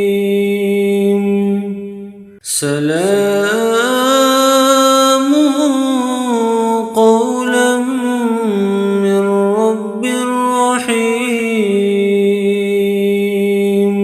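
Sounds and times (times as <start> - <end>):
person chanting a recitation: 0.0 - 14.0.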